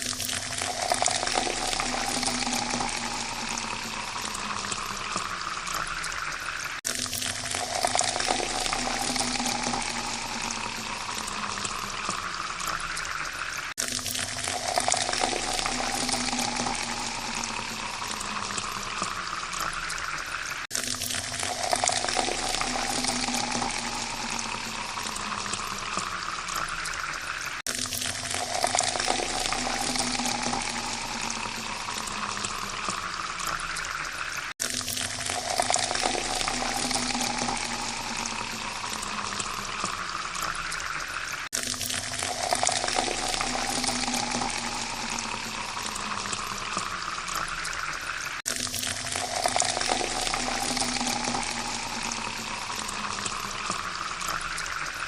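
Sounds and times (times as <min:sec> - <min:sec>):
water pouring into a glass: 0:00.0 - 0:55.0.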